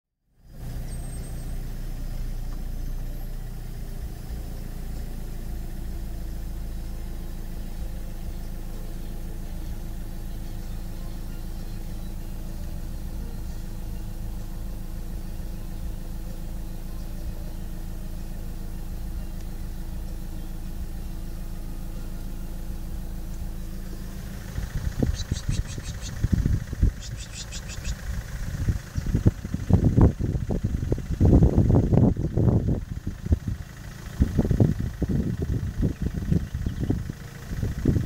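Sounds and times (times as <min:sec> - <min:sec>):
vehicle engine idling: 0:00.2 - 0:38.0.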